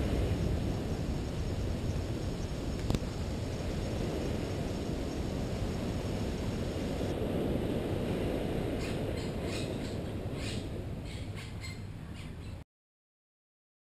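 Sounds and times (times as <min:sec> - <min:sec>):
low rushing outdoor noise: 0:00.0 - 0:12.6.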